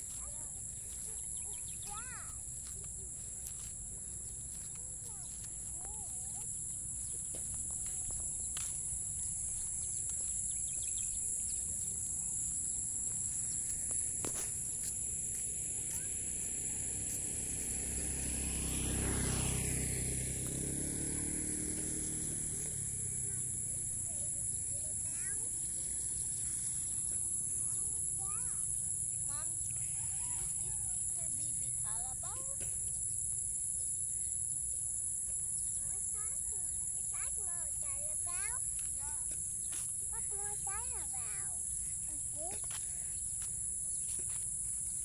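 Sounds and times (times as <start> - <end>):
high-pitched insect drone: 0.0 - 45.0.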